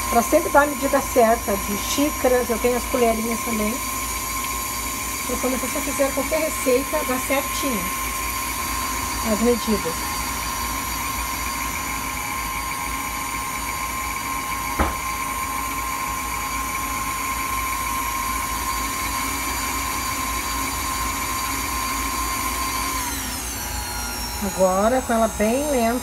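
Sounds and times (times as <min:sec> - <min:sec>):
stand mixer whirring: 0:00.0 - 0:26.0.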